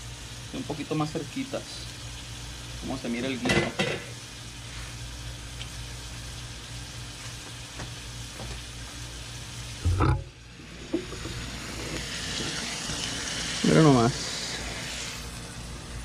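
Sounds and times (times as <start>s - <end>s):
food frying sizzle: 0.0s - 16.0s.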